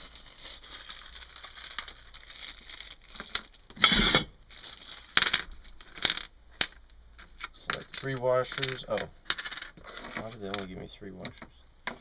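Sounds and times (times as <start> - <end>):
plastic packet crinkling: 0.0 - 6.4, 7.8 - 11.3.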